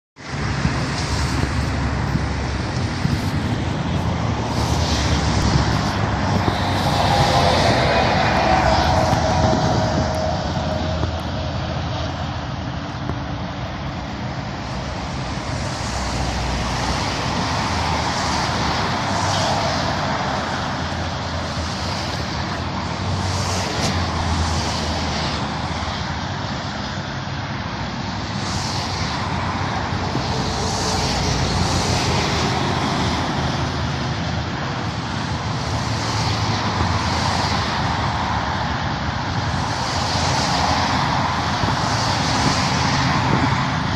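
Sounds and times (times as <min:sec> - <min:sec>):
distant diesel locomotive drone: 0:00.2 - 0:43.9
road traffic: 0:00.2 - 0:43.9.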